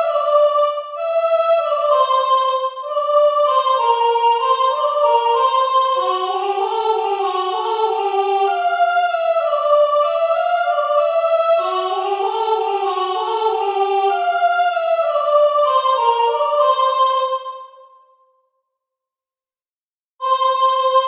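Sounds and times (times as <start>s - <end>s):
layered soprano singing a cappella: 0.0s - 17.9s, 20.2s - 21.0s.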